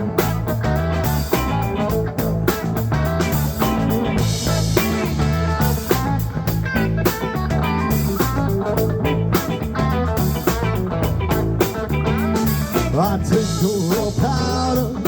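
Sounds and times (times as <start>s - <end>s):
bass line: 0.0s - 15.0s
drums: 0.0s - 15.0s
guitar lines: 0.0s - 15.0s.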